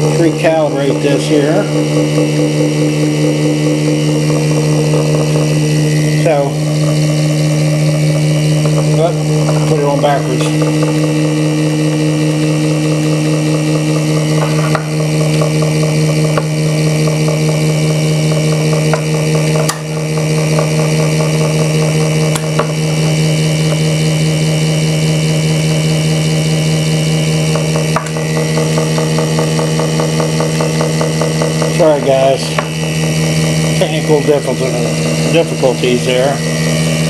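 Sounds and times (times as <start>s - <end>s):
motor humming: 0.0s - 37.0s.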